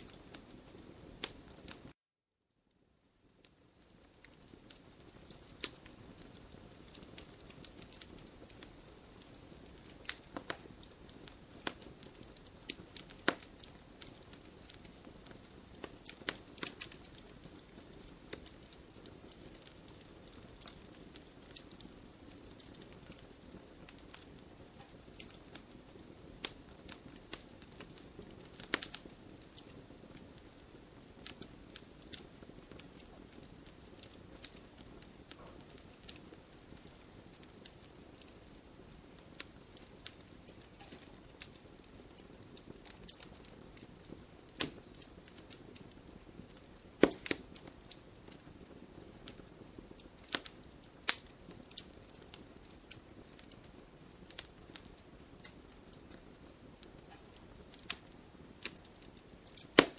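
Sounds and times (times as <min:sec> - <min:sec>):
campfire crackling and popping: 0:00.0 - 0:02.0, 0:03.2 - 0:59.9.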